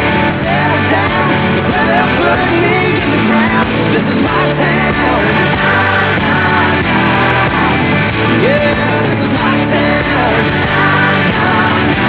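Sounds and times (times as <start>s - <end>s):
rock song with singing: 0.0s - 12.0s.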